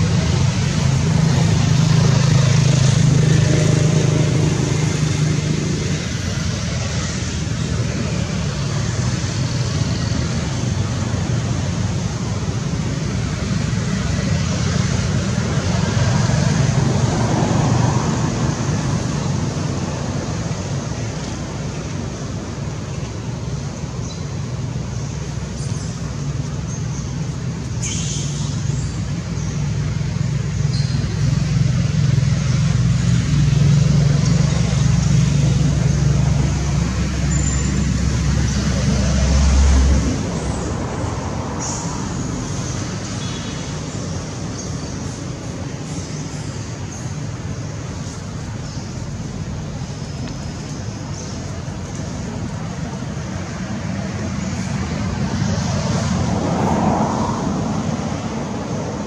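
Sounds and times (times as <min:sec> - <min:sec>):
rushing traffic noise: 0:00.0 - 0:59.0
vehicle engine drone: 0:00.0 - 0:59.0.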